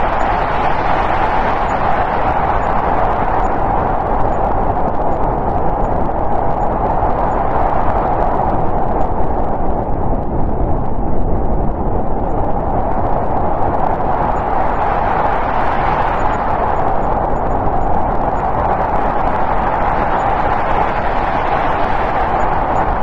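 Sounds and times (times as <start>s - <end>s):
howling snowstorm wind: 0.0s - 23.0s.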